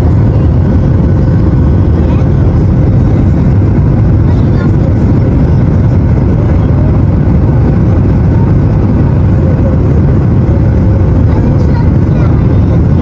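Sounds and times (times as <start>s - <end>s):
airliner engine drone in cabin: 0.0s - 13.0s.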